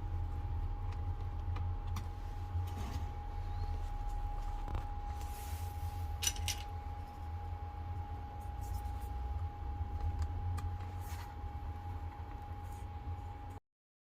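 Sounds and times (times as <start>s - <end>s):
faint constant tone: 0.0s - 13.6s
steady low hum: 0.0s - 13.6s.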